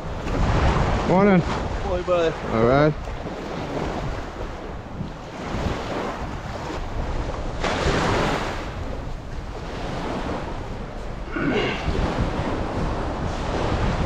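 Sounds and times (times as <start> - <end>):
small waves washing onto sand: 0.0 - 14.0
wind rumbling on microphone: 0.0 - 14.0.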